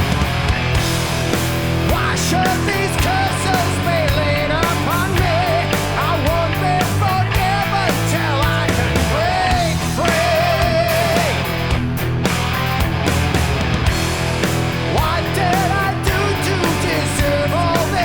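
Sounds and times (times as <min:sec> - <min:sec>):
bass and drums: 0:00.0 - 0:18.0
heavy metal lead guitar: 0:00.0 - 0:18.0.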